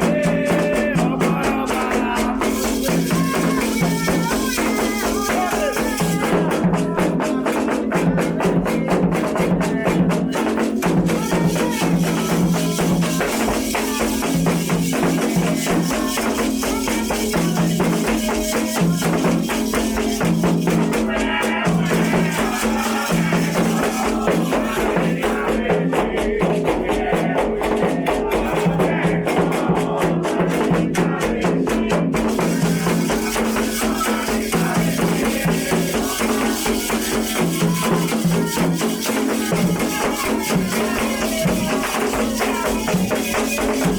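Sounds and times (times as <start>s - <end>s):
rattle shaken rapidly: 0.0s - 8.3s, 9.0s - 25.7s, 27.7s - 43.9s.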